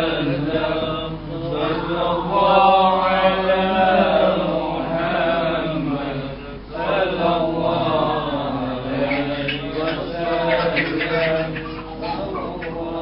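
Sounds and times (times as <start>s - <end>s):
men chanting together: 0.0s - 13.0s.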